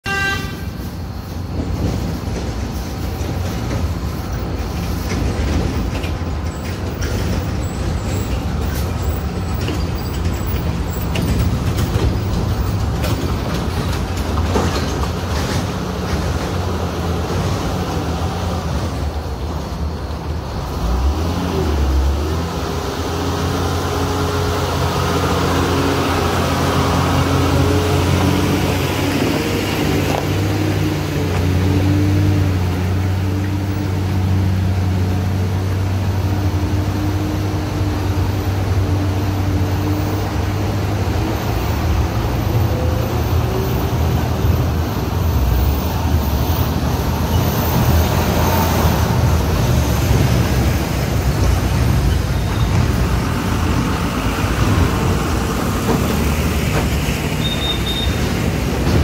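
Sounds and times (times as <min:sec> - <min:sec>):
truck diesel engines droning: 0:00.0 - 0:59.0.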